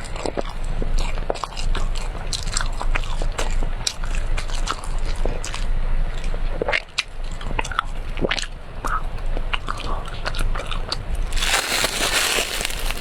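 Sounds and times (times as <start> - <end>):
crunchy biting and chewing: 0.0 - 13.0.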